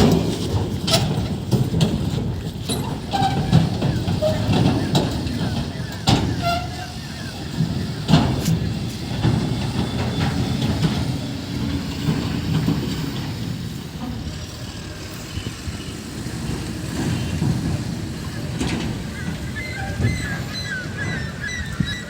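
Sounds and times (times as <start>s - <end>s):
truck diesel engine rumbling: 0.0s - 22.0s.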